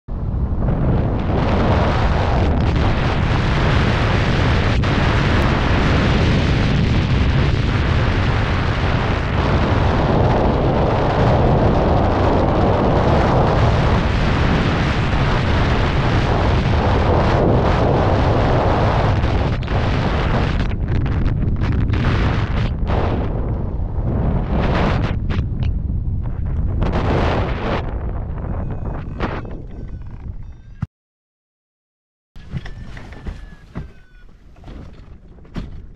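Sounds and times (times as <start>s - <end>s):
wind buffeting microphone: 0.1s - 30.9s.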